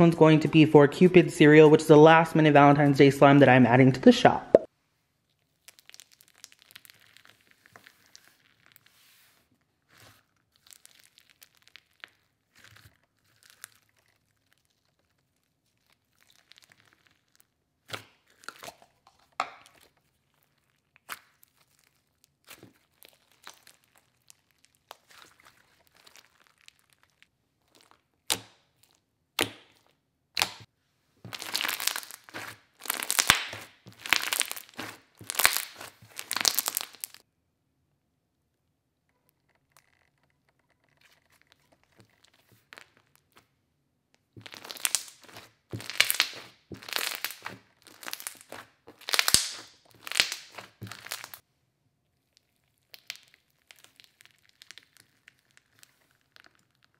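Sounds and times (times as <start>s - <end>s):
slime crackling and popping: 5.2s - 37.2s, 40.8s - 43.5s, 44.1s - 51.4s, 52.2s - 56.9s.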